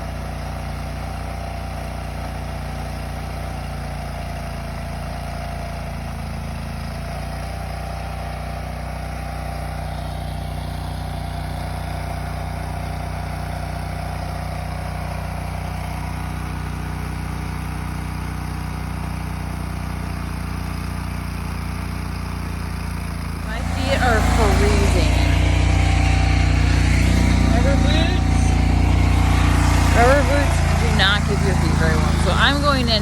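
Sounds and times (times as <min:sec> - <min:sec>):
trencher engine running: 0:00.0 - 0:33.0.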